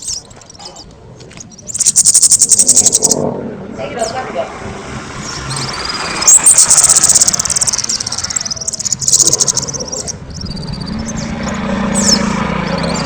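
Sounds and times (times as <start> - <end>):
songbird singing with trills: 0.0 - 3.2, 5.2 - 13.0
steady low hum: 0.0 - 13.0.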